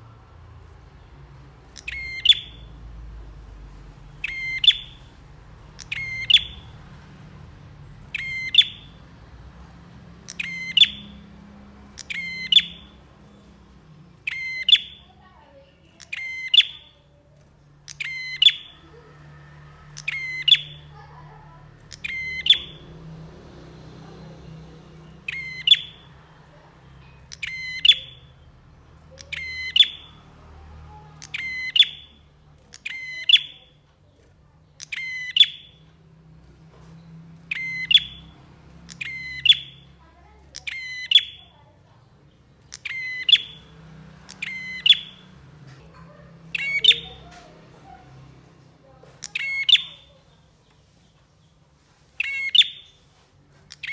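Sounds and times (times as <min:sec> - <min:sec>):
bird calling with trilled notes: 0:00.6 - 0:23.0, 0:25.0 - 0:30.3, 0:30.9 - 0:35.9, 0:36.9 - 0:48.0, 0:48.8 - 0:50.4, 0:52.2 - 0:53.0, 0:53.6 - 0:53.9.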